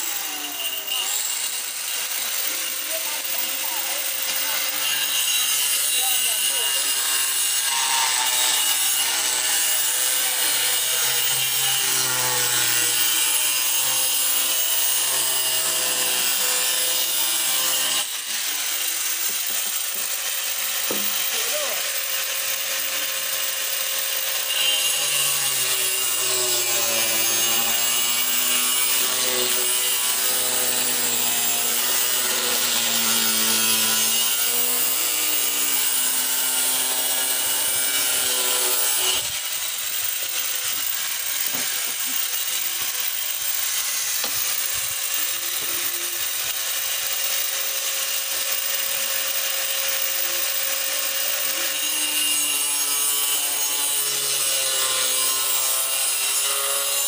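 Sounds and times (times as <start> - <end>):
angle grinder cutting: 0.0 - 57.0.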